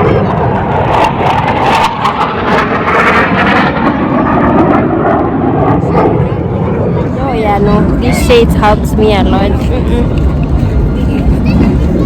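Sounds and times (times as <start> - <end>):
aircraft engine flying over: 0.0 - 12.0.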